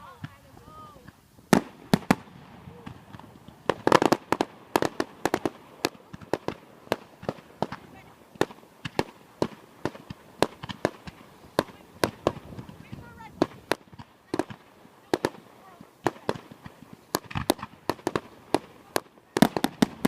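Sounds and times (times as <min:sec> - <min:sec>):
fireworks bangs and cracks: 0:00.0 - 0:20.0.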